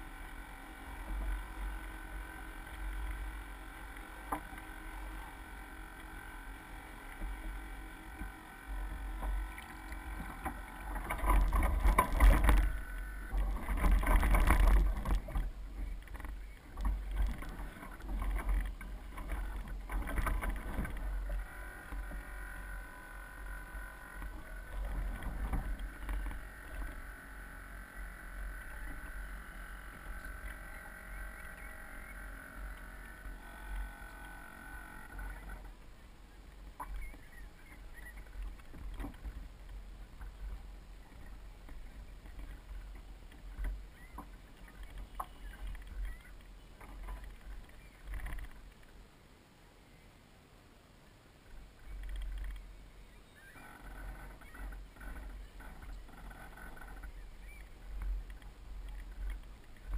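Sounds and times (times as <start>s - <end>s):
water splashing against hull: 0.0s - 49.0s.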